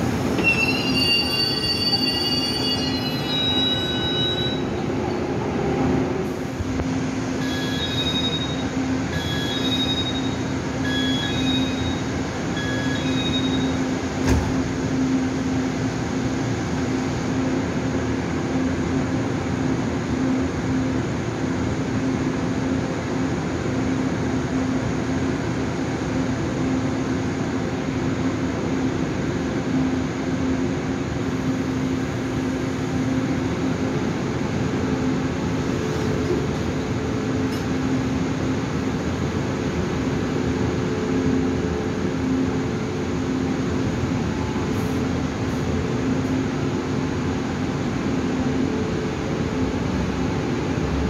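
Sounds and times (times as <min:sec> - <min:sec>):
train hum and rumble: 0:00.0 - 0:51.0.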